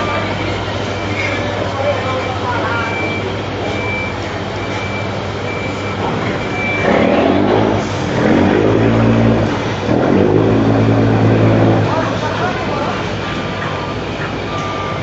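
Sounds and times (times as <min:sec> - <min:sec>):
boat diesel engine running: 0:00.0 - 0:15.0.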